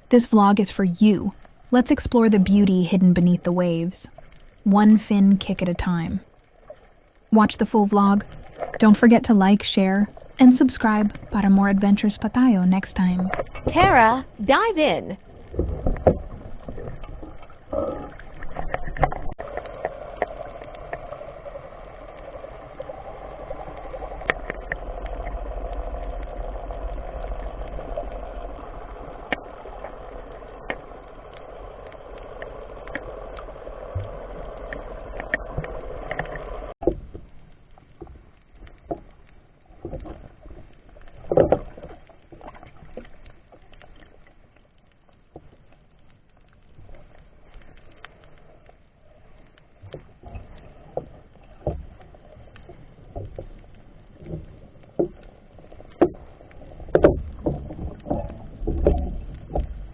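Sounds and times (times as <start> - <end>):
muffled water noise: 0.0 - 59.9.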